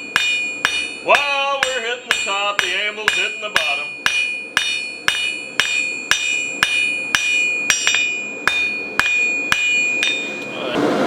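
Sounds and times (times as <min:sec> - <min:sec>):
anvil ringing: 0:00.0 - 0:10.7
hammer striking steel on anvil: 0:00.0 - 0:10.8.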